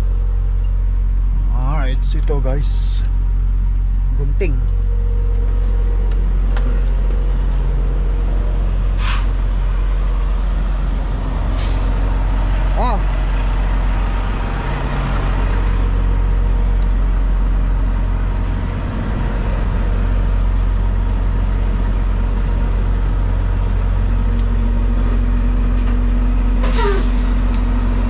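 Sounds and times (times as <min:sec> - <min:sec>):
road noise: 0:00.0 - 0:28.0
truck engine drone: 0:00.0 - 0:28.0.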